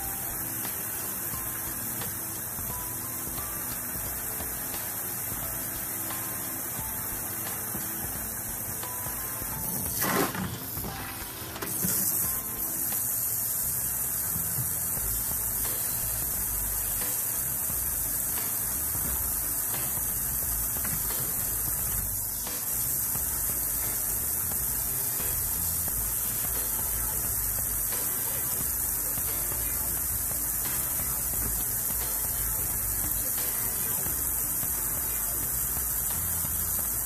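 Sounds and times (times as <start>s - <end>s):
hose nozzle spraying water: 0.0s - 37.0s.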